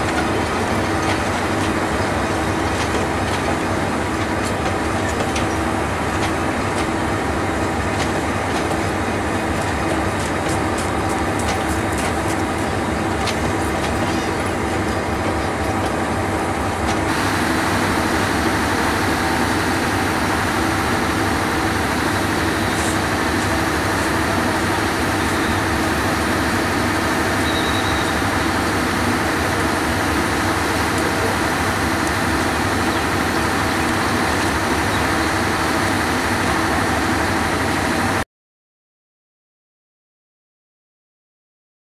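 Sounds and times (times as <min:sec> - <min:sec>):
train rumbling along tracks: 0:00.0 - 0:38.2.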